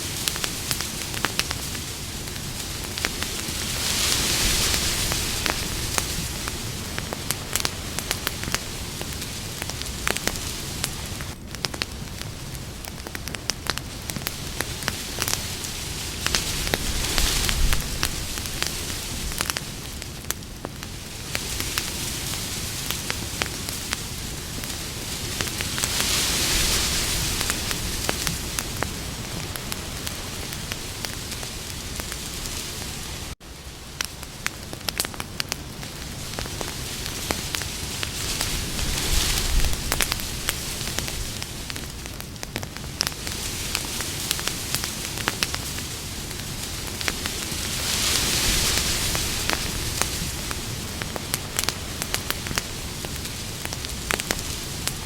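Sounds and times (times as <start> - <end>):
campfire crackling and hissing: 0.0 - 55.0.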